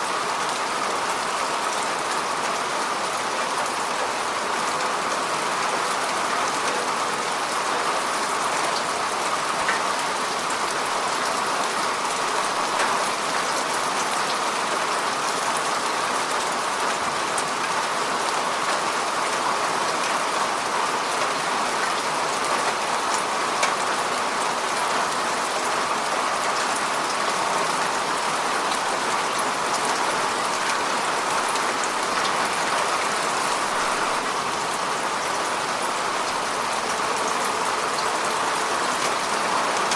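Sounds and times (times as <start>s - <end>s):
rain falling on a lake: 0.0s - 39.9s.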